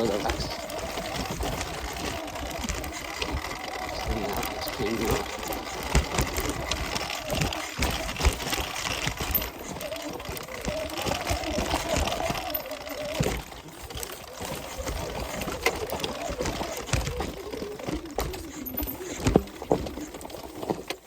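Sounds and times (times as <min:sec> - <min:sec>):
bike knocking and rattling: 0:00.0 - 0:21.0
electric motorbike motor whining: 0:00.0 - 0:21.0.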